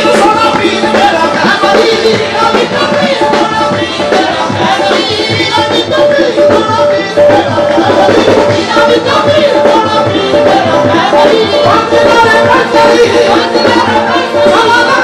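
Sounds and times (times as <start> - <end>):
fast hand drum rhythm: 0.0 - 15.0
harmonium melody: 0.0 - 15.0.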